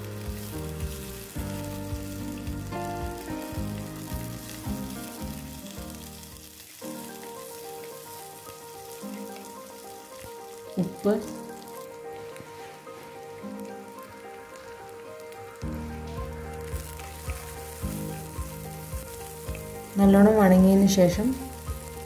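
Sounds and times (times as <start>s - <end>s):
background music melody: 0.0s - 22.0s
food sizzling in hot oil: 0.0s - 22.0s.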